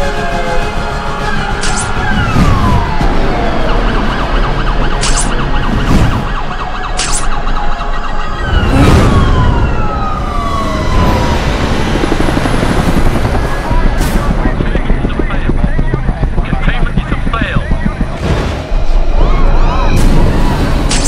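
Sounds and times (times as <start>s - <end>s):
sirens gliding down in pitch: 0.0s - 20.9s.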